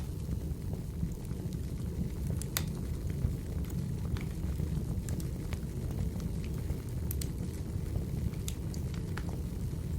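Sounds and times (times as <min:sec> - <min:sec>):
faint fire crackles: 0:00.0 - 0:09.9
fire flames rumbling: 0:00.0 - 0:09.9.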